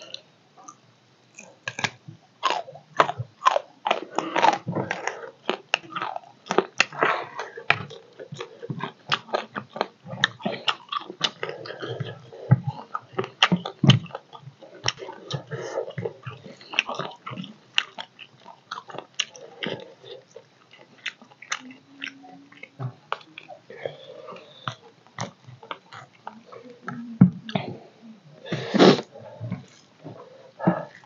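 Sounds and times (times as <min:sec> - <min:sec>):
person chewing and lip-smacking: 0:00.0 - 0:27.7.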